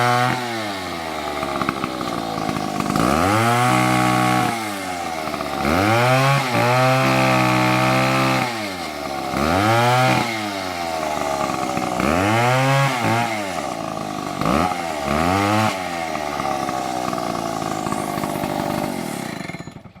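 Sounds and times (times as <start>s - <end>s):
chainsaw engine revving: 0.0s - 20.0s.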